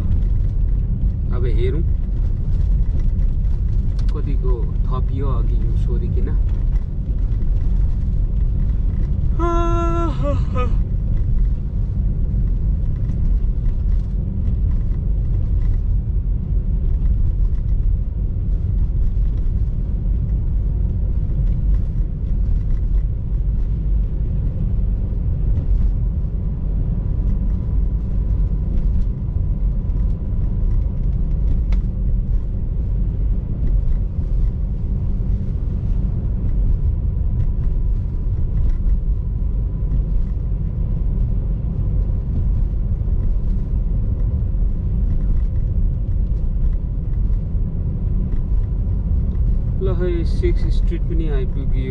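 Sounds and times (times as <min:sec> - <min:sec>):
car engine and tyres rumbling: 0:00.0 - 0:51.9.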